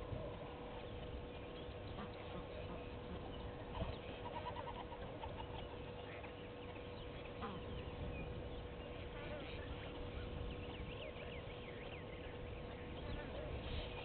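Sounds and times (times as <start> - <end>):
bird calls: 0.0 - 14.0
steady hum: 0.0 - 14.0.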